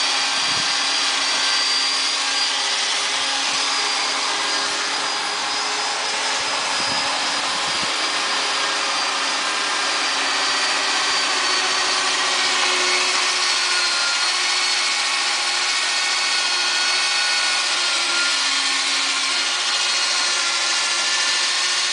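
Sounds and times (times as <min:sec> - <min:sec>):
high-pitched whines: 0:00.0 - 0:21.6.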